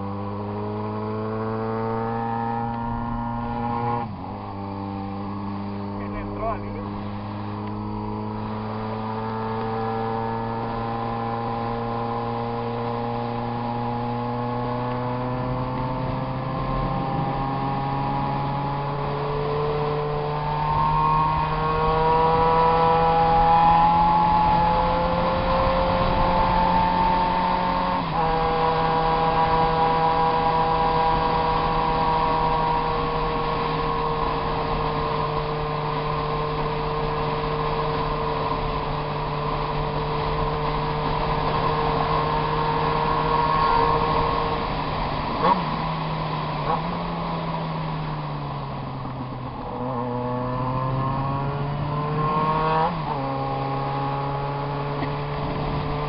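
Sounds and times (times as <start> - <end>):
car engine running: 1.5 - 56.0.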